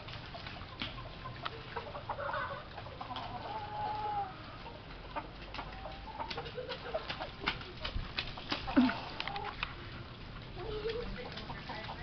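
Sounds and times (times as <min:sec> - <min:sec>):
rain falling on puddles: 0:00.0 - 0:02.0, 0:02.7 - 0:12.0
chicken clucking: 0:00.6 - 0:09.6, 0:10.6 - 0:12.0.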